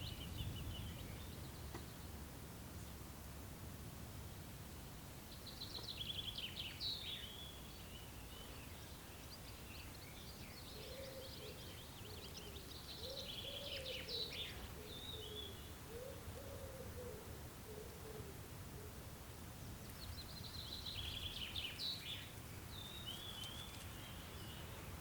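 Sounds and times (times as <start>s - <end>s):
songbird singing trills: 0.0s - 3.0s, 5.3s - 18.4s, 19.6s - 25.0s.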